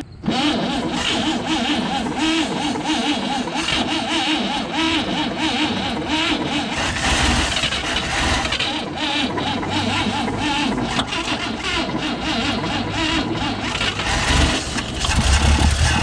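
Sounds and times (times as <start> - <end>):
engine rumble firing: 0.0 - 16.0
starter motor cranking whine: 0.0 - 16.0.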